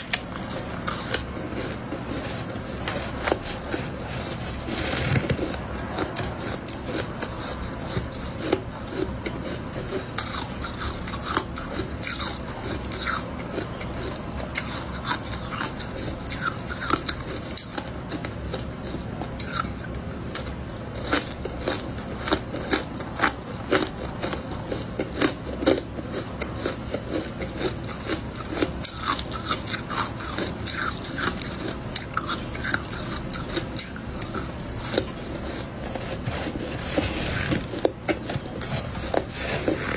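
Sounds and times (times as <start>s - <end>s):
chewing crunchy frost: 0.0s - 39.9s
low steady hum: 0.0s - 39.9s.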